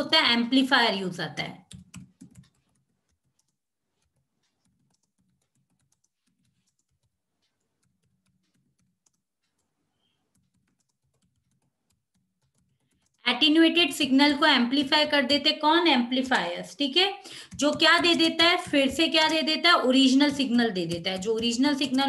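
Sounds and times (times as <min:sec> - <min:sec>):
faint typing on computer keyboard: 0:00.0 - 0:22.0.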